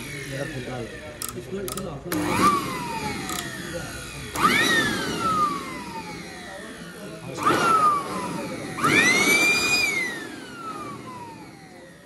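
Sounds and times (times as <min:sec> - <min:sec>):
blower motor whining: 0:00.0 - 0:12.0.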